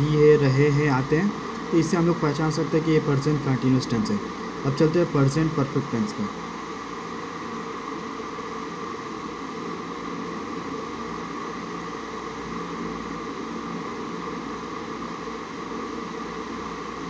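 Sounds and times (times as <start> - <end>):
room noise hum and hiss: 0.0 - 17.0.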